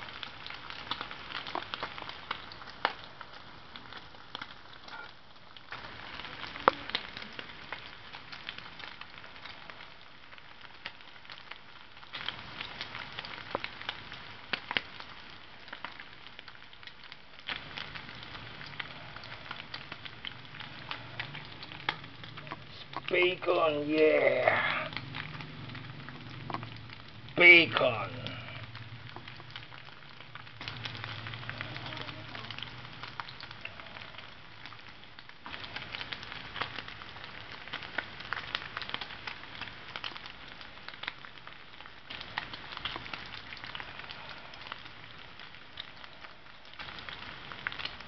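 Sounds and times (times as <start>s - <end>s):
bacon sizzling in a pan: 0.0s - 48.0s
popping and crackling fat: 0.0s - 48.0s.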